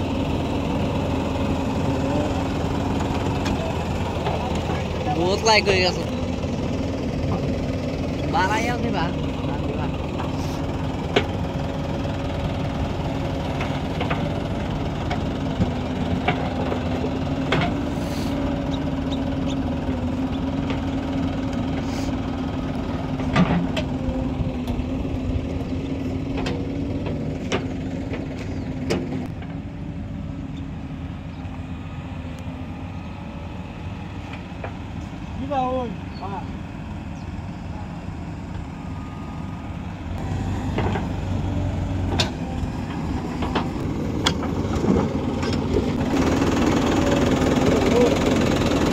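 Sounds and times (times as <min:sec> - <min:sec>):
diesel engines running: 0:00.0 - 0:48.9.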